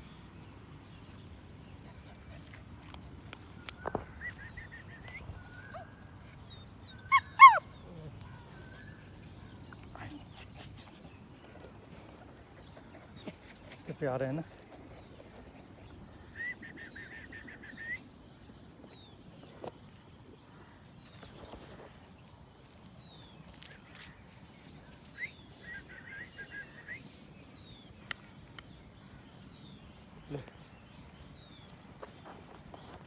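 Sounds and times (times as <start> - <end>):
birds chirping: 0.0 - 33.0
outdoor background noise: 0.0 - 33.0.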